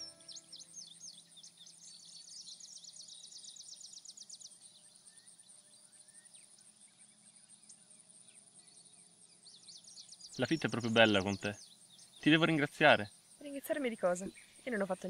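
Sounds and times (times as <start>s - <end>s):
bird chirps and trills: 0.0s - 15.0s.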